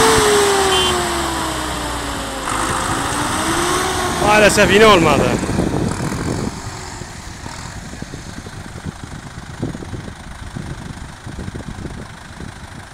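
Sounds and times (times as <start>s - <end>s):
diesel tractor engines idling: 0.0s - 12.9s.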